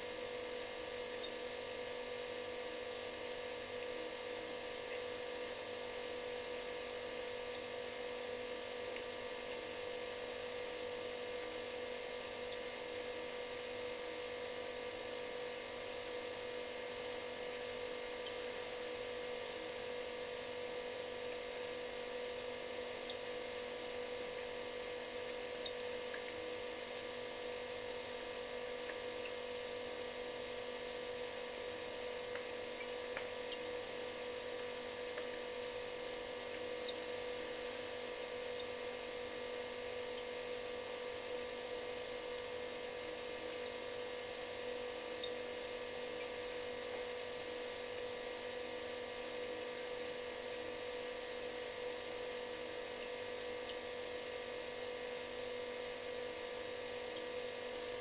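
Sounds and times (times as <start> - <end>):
refrigerator humming: 0.0 - 58.0
faint ticks: 0.8 - 1.8, 2.5 - 19.6, 20.4 - 53.9, 54.6 - 58.0.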